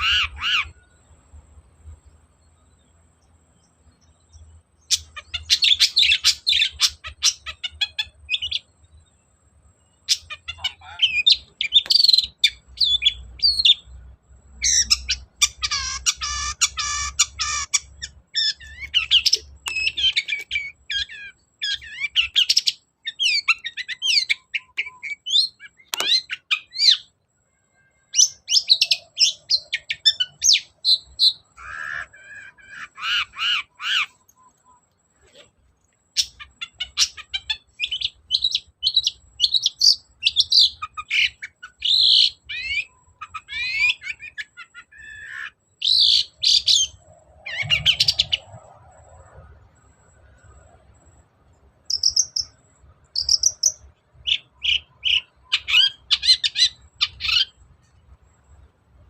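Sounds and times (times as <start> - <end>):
bird chattering song: 0.0 - 27.2, 27.8 - 58.8.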